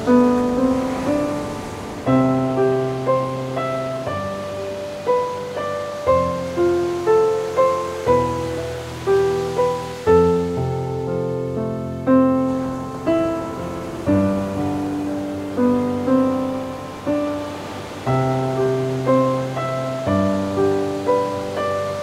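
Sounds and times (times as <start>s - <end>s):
ocean waves: 0.0s - 22.0s
slow solo piano: 0.0s - 22.0s.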